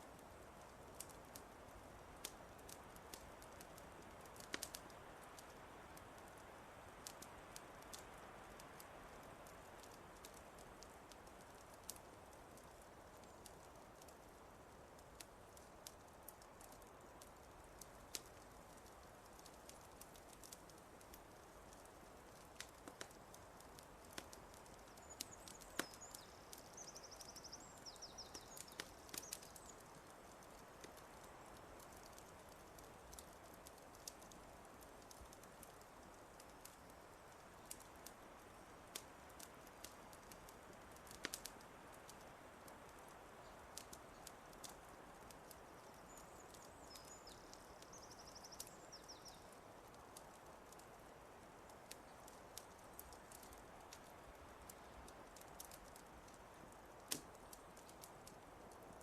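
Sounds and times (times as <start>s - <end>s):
faint wood fire crackling: 0.0s - 59.0s
soft steady hiss: 0.0s - 59.0s.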